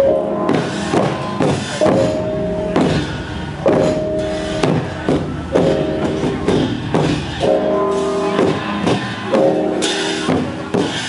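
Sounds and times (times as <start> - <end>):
drum beats: 0.0 - 11.0
gongs ringing: 0.0 - 11.0.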